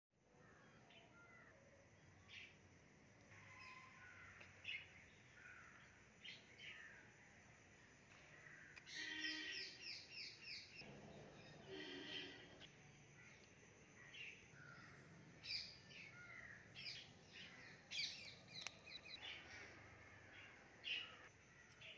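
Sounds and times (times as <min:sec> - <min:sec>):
birds chirping faintly: 0:00.3 - 0:21.9.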